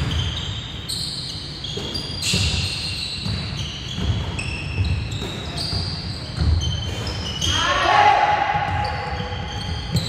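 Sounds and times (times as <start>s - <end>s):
sneakers squeaking: 0.0s - 10.0s.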